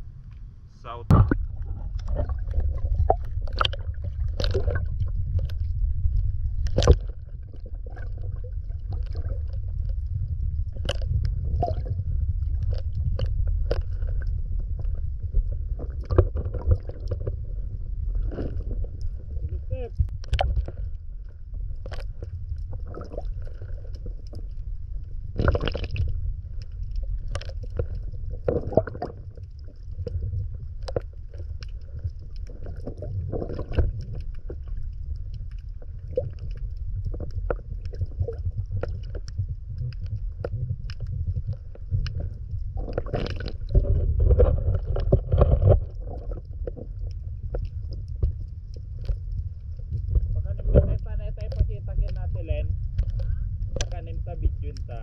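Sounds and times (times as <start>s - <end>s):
muffled underwater rumble: 0.0s - 55.0s
water sloshing: 0.0s - 55.0s
sharp underwater clicks: 1.1s - 14.9s, 19.9s - 21.0s, 21.8s - 55.0s.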